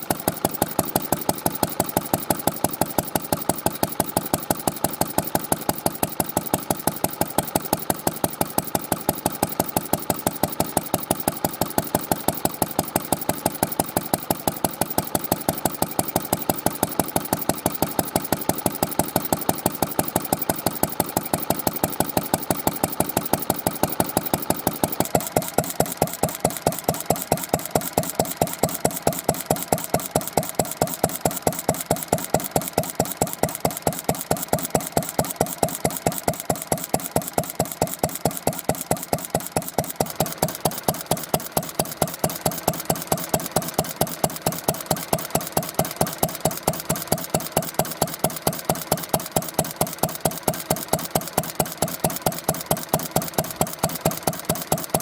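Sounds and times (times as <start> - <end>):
stationary engine running: 0.0 - 55.0.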